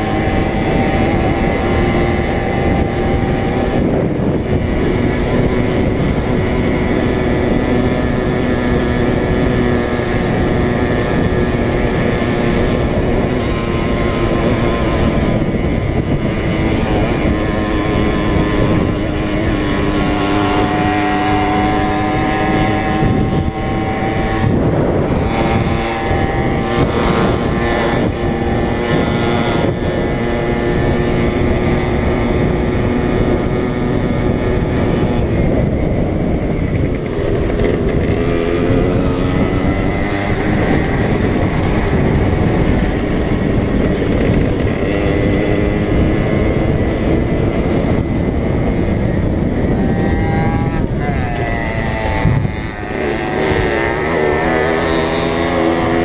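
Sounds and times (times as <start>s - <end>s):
moped engine running hard: 0.0s - 56.0s
steady rushing noise: 0.0s - 56.0s.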